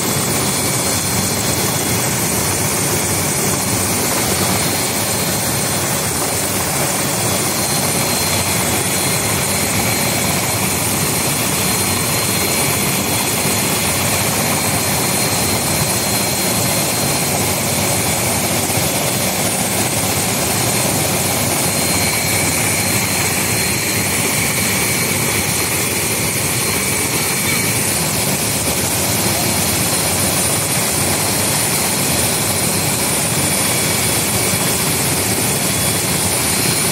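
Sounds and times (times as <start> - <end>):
helicopter turbine engine running: 0.0 - 36.9.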